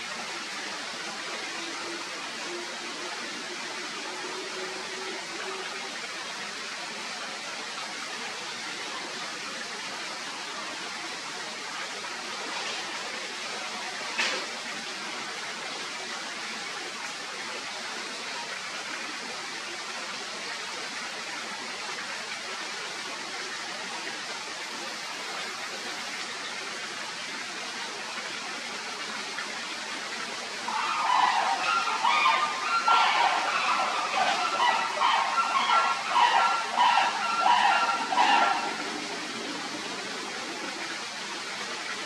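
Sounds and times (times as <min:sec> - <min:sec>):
outdoor ambience rushing noise: 0:00.0 - 0:42.0.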